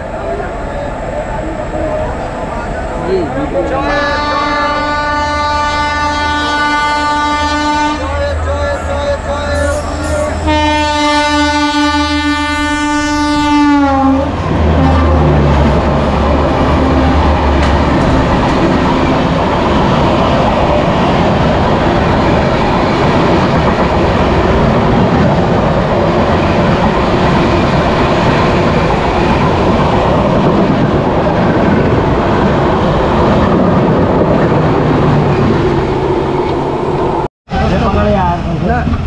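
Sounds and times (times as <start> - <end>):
train passing: 0.0 - 39.0.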